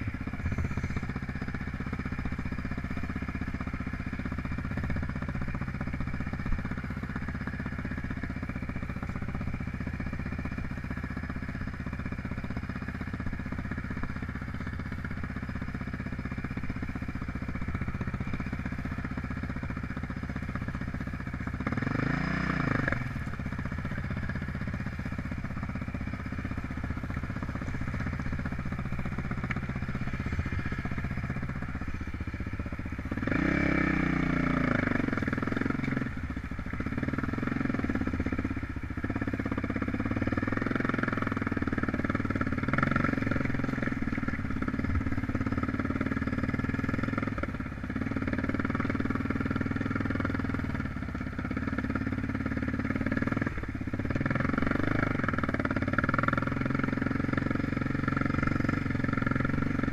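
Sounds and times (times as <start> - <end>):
motorcycle engine drone: 0.0 - 59.9
motorcycle engine revving: 0.0 - 59.9.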